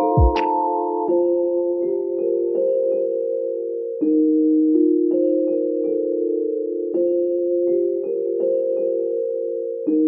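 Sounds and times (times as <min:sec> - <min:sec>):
soft vibraphone chords: 0:00.0 - 0:10.0.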